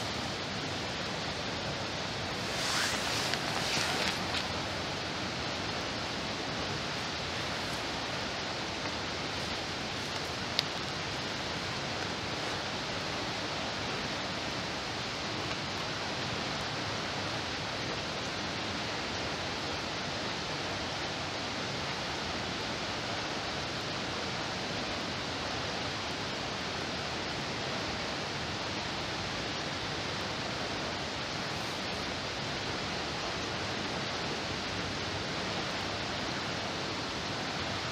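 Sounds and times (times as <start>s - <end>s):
rush of water: 0.0s - 37.9s.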